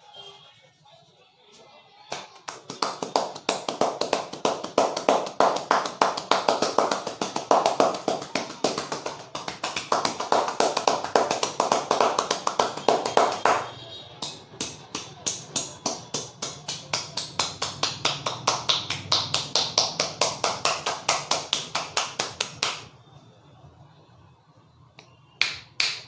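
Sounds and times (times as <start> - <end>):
hands slapping and tapping head: 2.1 - 13.6, 14.2 - 22.9, 25.0 - 26.0.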